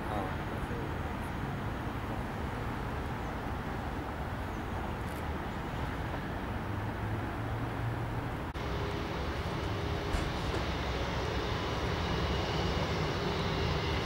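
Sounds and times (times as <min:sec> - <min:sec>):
faint engine whine: 0:00.0 - 0:14.0
jet engines running: 0:00.0 - 0:14.0.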